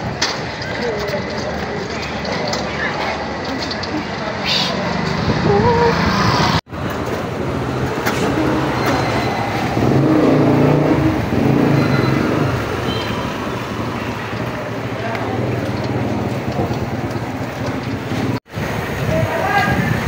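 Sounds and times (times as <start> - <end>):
busy street traffic: 0.0 - 20.0.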